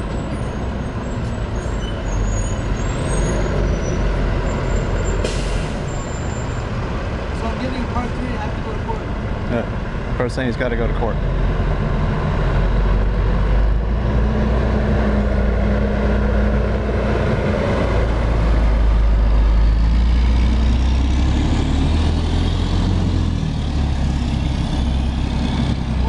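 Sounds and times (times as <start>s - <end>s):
heavy truck engine rumble: 0.0s - 26.0s
street traffic: 0.0s - 26.0s.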